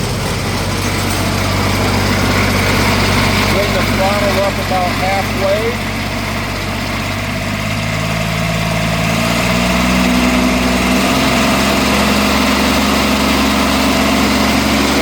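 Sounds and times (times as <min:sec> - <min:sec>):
wood chipper diesel engine revving: 0:00.0 - 0:15.0.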